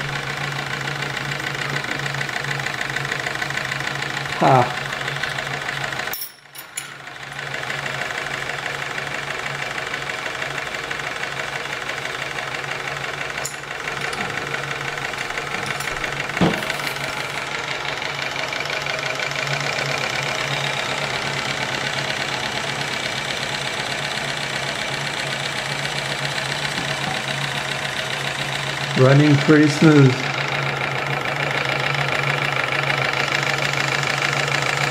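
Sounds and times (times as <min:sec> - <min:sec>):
steam engine running: 0:00.0 - 0:06.2, 0:06.8 - 0:34.9.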